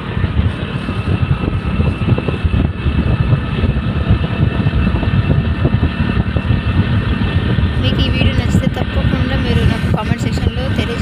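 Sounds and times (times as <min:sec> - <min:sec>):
vehicle rumble in motion: 0:00.0 - 0:11.0.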